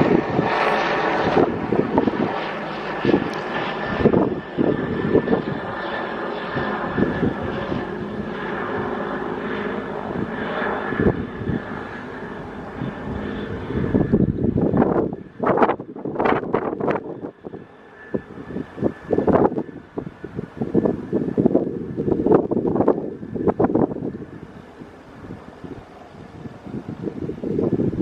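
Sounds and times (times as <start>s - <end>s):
helicopter running: 0.0s - 28.0s.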